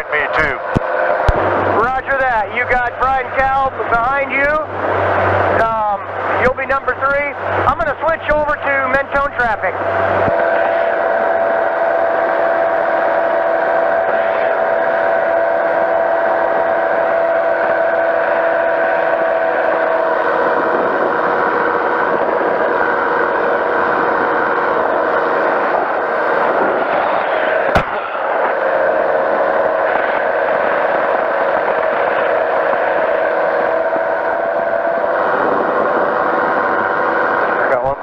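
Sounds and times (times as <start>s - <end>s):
engine and propeller drone: 0.0s - 38.0s.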